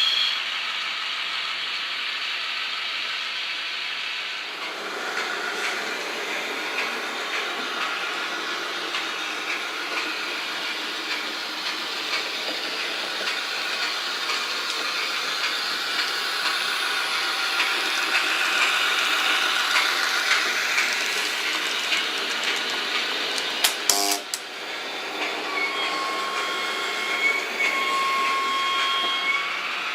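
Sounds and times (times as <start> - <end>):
model locomotive running sound: 0.0 - 29.9.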